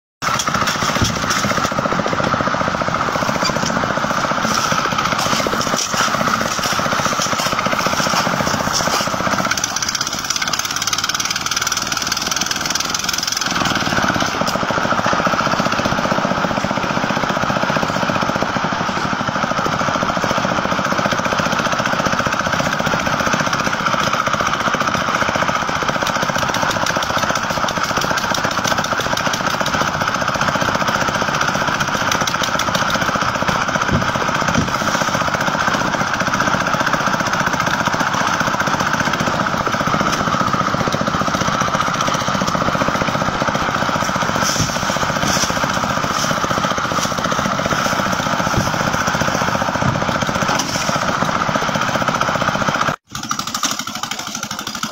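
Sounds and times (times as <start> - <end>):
concrete mixer engine running: 0.2 - 54.9
hoist winch running: 0.2 - 54.9.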